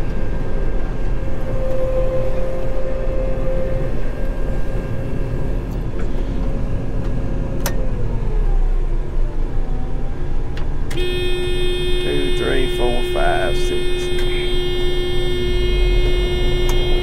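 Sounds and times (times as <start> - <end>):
steady hum: 0.0 - 7.6, 10.9 - 17.0.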